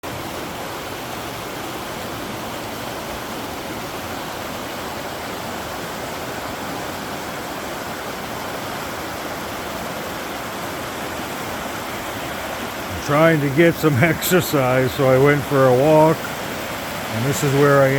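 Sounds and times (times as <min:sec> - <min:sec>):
river water rushing: 0:00.0 - 0:17.9.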